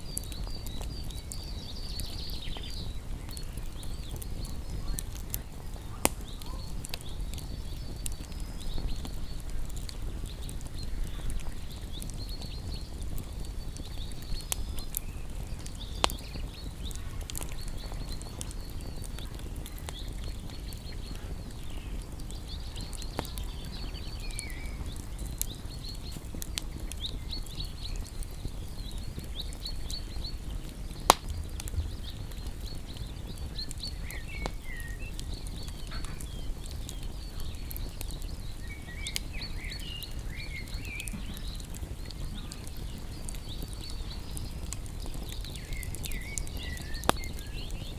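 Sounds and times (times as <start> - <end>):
birds chirping and twittering: 0.0 - 47.9
bonfire burning rush: 0.0 - 47.9
fire crackling pops: 0.0 - 47.9.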